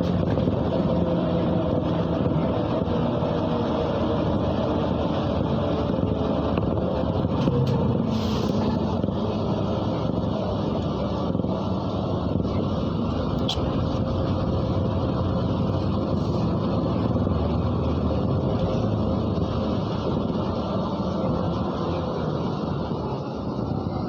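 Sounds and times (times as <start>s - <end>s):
bus engine and road noise: 0.0s - 24.0s.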